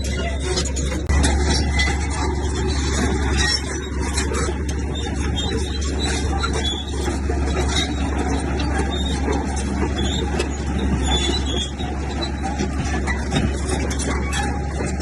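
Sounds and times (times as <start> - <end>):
diesel engine running under load: 0.0 - 15.0
metal clanks and rattles: 0.0 - 15.0.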